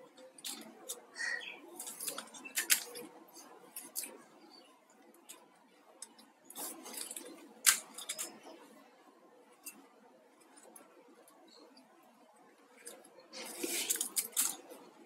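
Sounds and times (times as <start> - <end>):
soft rustling of fish wire: 0.0 - 15.0.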